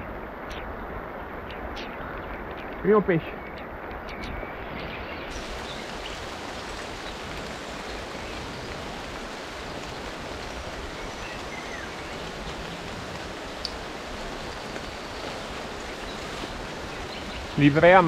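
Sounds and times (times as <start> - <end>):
rain hissing on water: 0.0 - 18.0
river flowing: 0.0 - 18.0.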